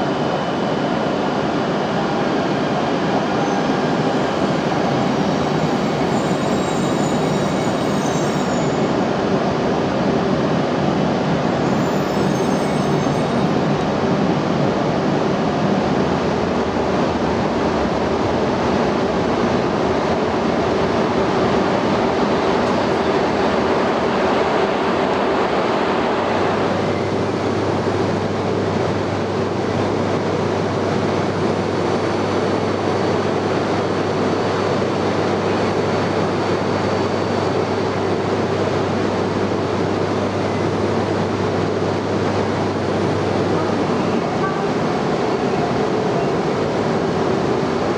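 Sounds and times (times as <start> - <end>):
train mechanical rush and hum: 0.0 - 47.9.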